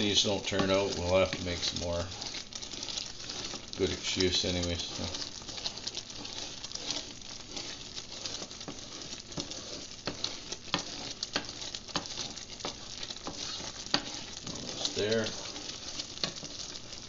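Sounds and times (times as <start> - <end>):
syrup boiling and spitting in a pot: 0.0 - 17.0
wooden spoon stirring and scraping: 0.0 - 17.0.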